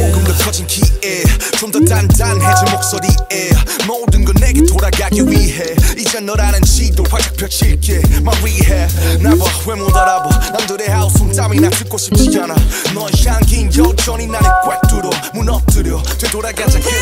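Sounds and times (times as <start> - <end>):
rapping over a beat: 0.0 - 17.0.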